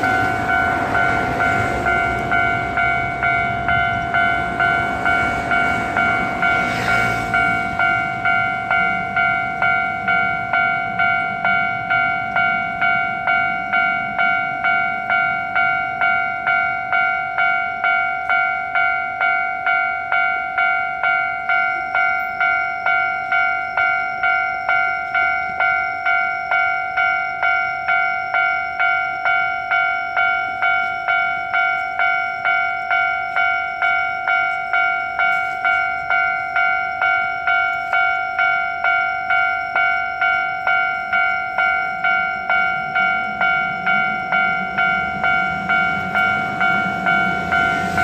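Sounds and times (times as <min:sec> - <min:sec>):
level-crossing warning bell: 0:00.0 - 0:48.0
low rumble of a train: 0:00.0 - 0:48.0.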